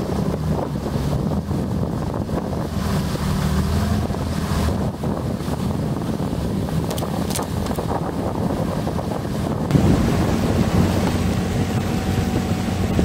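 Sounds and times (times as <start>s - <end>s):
boat motor running: 0.0s - 13.0s
wind on microphone: 0.0s - 13.0s.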